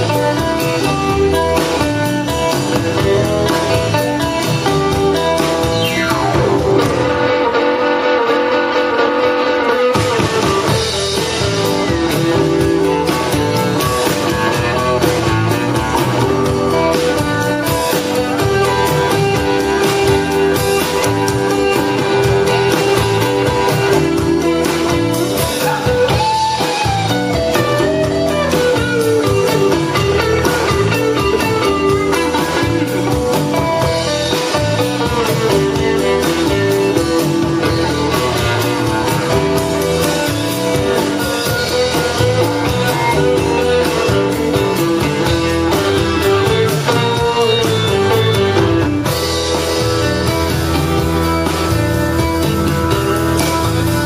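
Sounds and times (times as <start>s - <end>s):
blues band playing: 0.0s - 54.0s
guitar: 0.0s - 54.0s.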